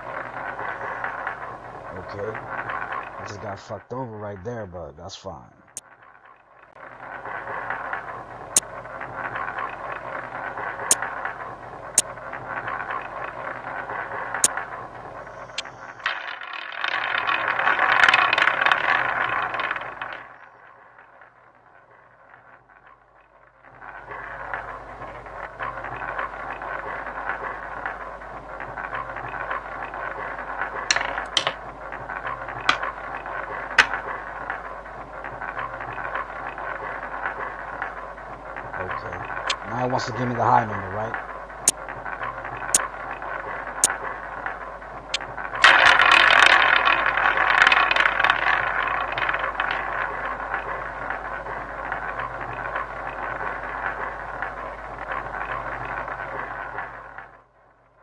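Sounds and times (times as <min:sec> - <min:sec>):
roulette wheel whirring: 0:00.0 - 0:58.0.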